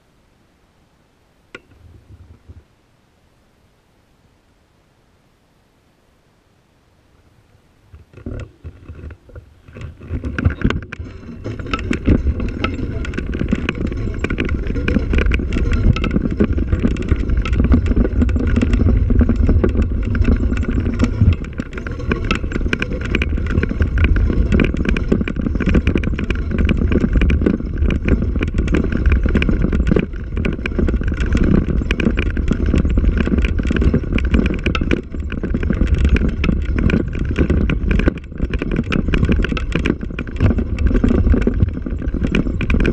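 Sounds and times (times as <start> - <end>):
vehicle rumbling over dirt track: 8.0 - 42.9.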